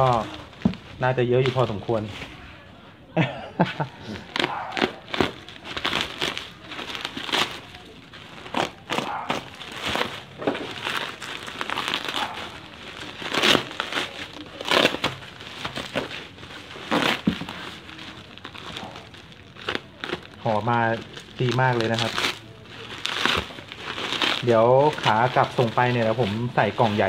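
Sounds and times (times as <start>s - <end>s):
bubble wrap and tape crinkling: 0.0s - 27.0s.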